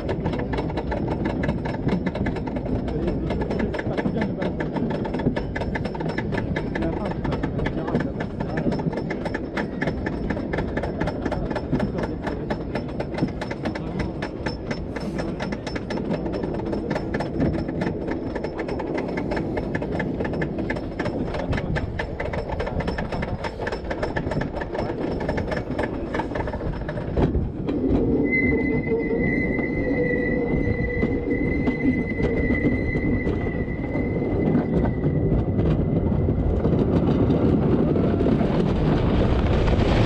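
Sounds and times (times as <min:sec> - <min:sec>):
roller coaster rumble: 0:00.0 - 0:40.0
roller coaster wheels clattering: 0:00.0 - 0:40.0
steady tones: 0:02.4 - 0:37.0.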